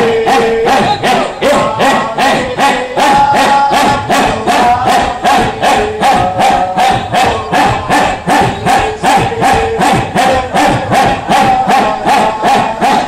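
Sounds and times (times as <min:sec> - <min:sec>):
fast even beat: 0:00.0 - 0:13.0
men chanting in unison: 0:00.0 - 0:13.0.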